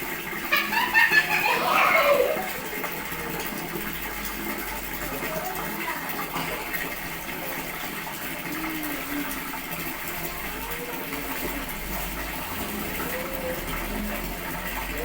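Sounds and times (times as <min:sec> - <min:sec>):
water running and gushing: 0:00.0 - 0:15.0.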